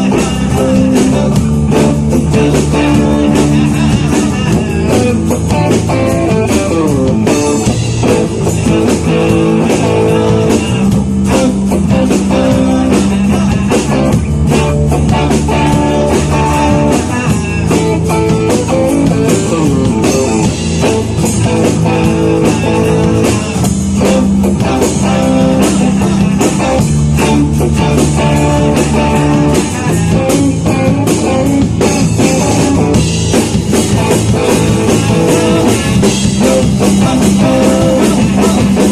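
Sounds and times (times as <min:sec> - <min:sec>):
bass: 0:00.0 - 0:38.9
drum kit: 0:00.0 - 0:38.9
guitar: 0:00.0 - 0:38.9.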